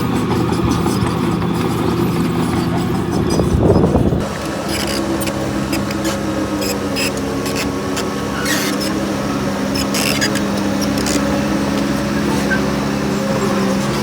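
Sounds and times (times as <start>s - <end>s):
diesel engine running: 0.0s - 14.0s
high-pitched squeaks and clicks: 0.1s - 9.0s, 9.7s - 14.0s.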